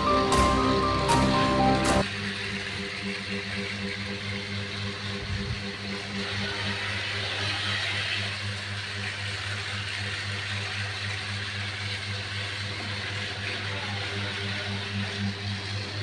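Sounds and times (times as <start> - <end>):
toy electric motor whirring: 0.0 - 16.0.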